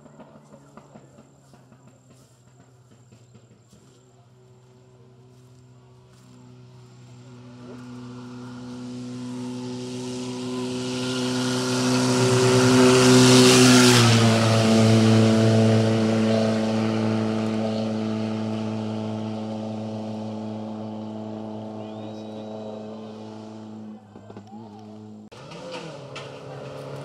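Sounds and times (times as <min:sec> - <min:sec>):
rally car engine passing: 0:00.0 - 0:27.0.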